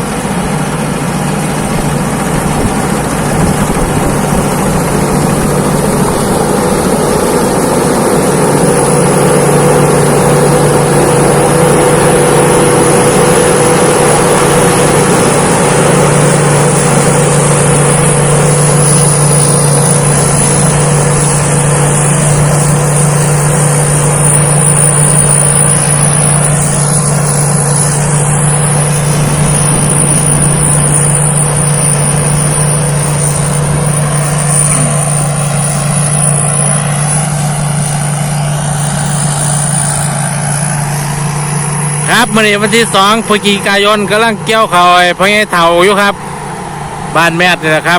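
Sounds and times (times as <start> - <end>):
combine harvester engine drone: 0.0 - 47.9
steady high whine: 0.0 - 47.9.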